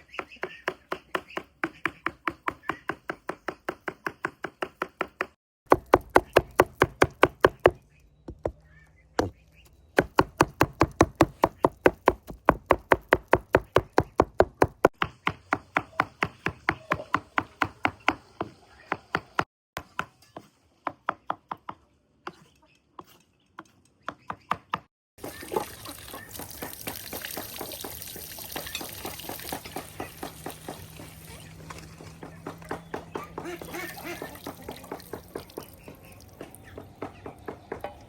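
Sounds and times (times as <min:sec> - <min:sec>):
open-air background noise: 0:00.0 - 0:38.0.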